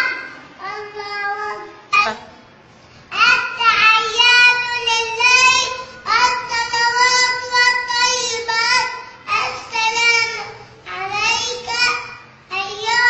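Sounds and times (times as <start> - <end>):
boy chanting a prayer: 0.0 - 2.4, 3.1 - 13.0.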